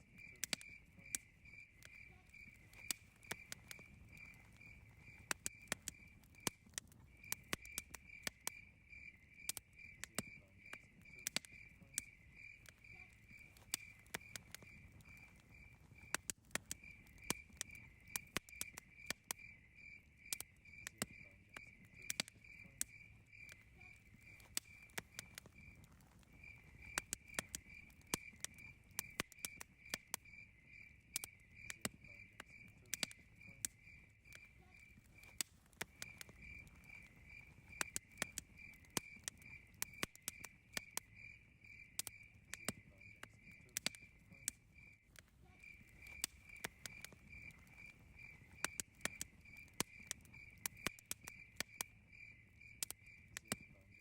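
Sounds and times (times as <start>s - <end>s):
campfire crackling: 0.0s - 54.0s
cricket chirping: 0.0s - 54.0s.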